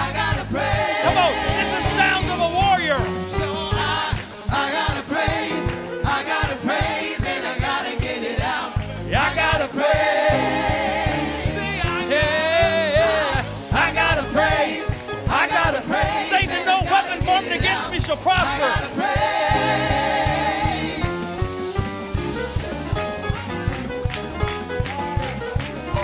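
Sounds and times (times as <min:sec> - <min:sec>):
people singing: 0:00.0 - 0:21.8
gospel band playing: 0:00.0 - 0:26.0.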